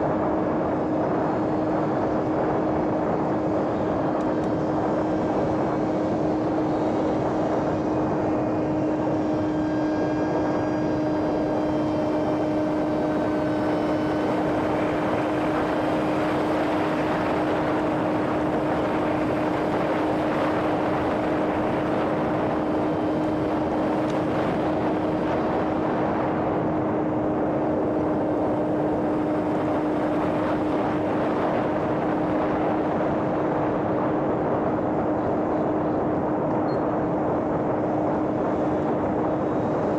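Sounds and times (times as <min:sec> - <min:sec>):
model airplane motor droning: 0:00.0 - 0:39.9.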